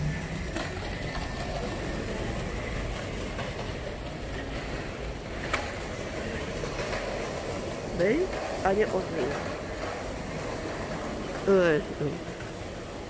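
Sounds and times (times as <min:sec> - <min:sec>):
street background rumble: 0:00.0 - 0:13.0.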